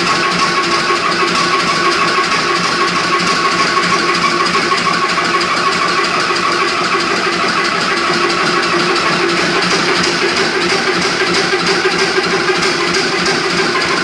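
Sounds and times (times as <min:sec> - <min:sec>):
oil engine running: 0:00.0 - 0:14.0.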